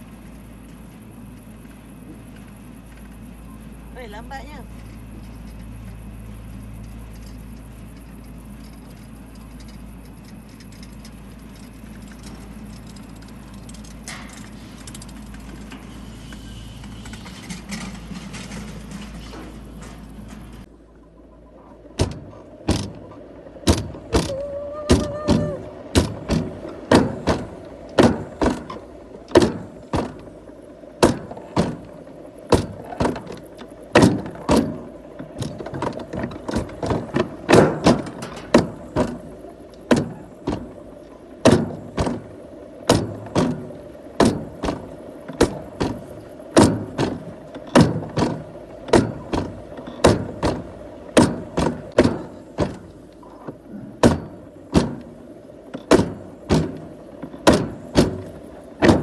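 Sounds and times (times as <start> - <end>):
vehicle running hum: 0.0 - 59.0.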